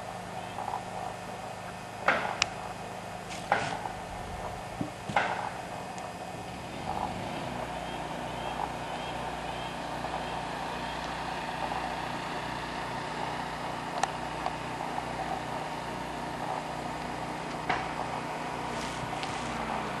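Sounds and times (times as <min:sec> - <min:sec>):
mechanical drone with hiss: 0:00.0 - 0:20.0.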